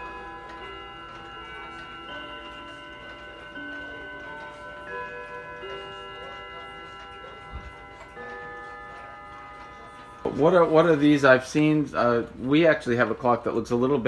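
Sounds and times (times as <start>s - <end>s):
pendulum clocks ticking: 0.0s - 14.0s.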